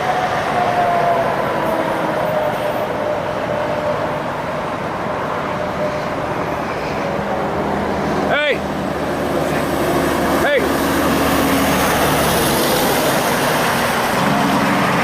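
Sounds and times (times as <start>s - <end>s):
heavy trucks passing: 0.0s - 15.0s.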